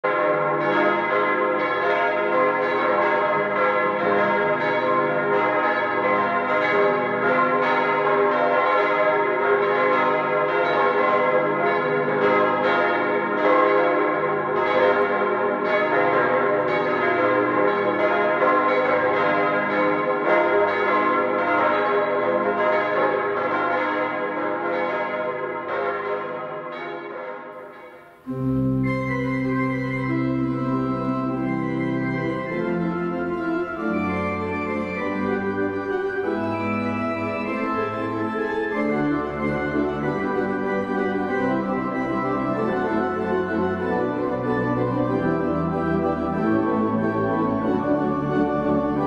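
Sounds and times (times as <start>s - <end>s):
church bells pealing: 0.0s - 49.0s.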